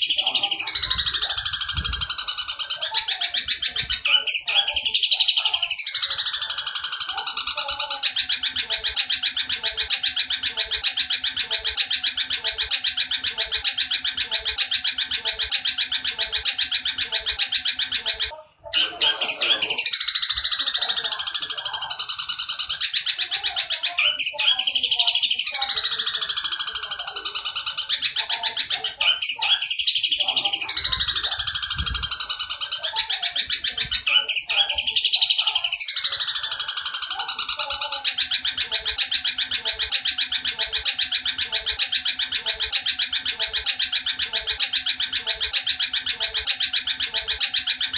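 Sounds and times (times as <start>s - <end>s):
bird harsh chattering phrases: 0.0s - 47.9s
bird harsh rapid calls: 0.0s - 47.9s.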